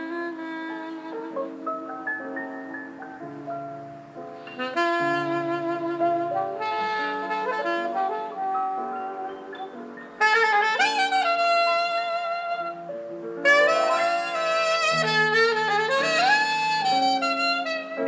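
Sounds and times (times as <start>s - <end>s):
jazz music with lead horn: 0.0s - 18.0s.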